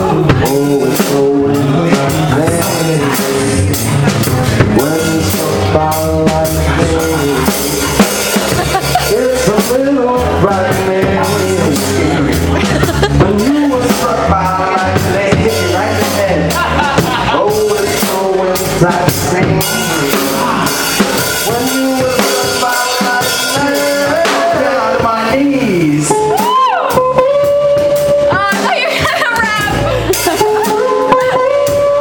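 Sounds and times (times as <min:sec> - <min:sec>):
drum kit keeping time: 0:00.0 - 0:32.0
sliding pitch-bending lead melody: 0:00.0 - 0:32.0.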